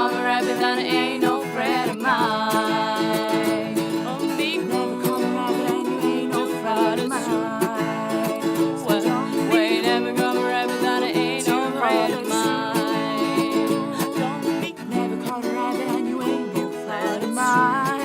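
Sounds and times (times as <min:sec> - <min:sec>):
strummed plucked string music: 0:00.0 - 0:18.0.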